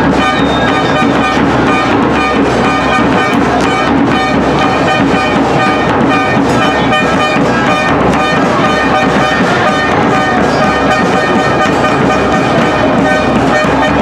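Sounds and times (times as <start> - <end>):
brass music with held horn notes: 0.0 - 14.0
dense noisy background: 0.0 - 14.0.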